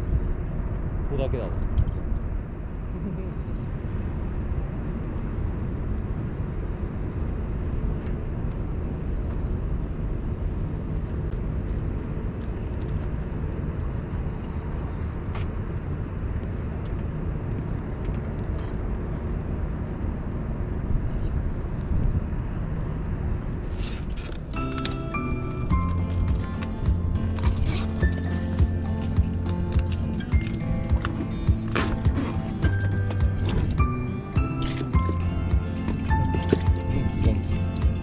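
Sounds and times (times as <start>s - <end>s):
low outdoor rumble: 0.0s - 38.0s.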